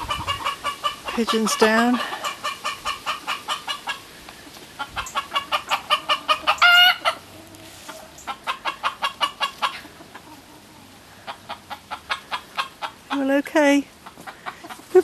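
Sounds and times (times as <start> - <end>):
chicken squawk: 0.0 - 4.1, 4.8 - 13.1
chickens clucking: 0.0 - 15.0.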